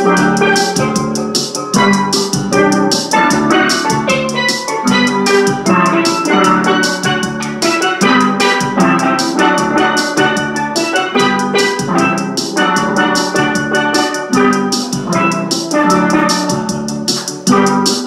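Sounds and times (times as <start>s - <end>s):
steel pans playing a melody: 0.0s - 18.0s.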